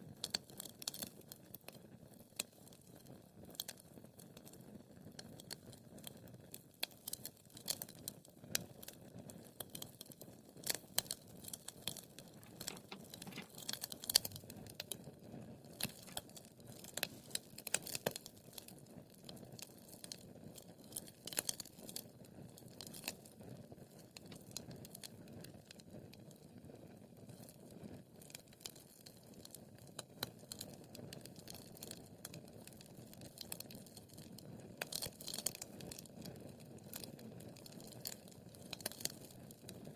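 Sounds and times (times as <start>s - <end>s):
fire crackling and popping: 0.1s - 39.9s.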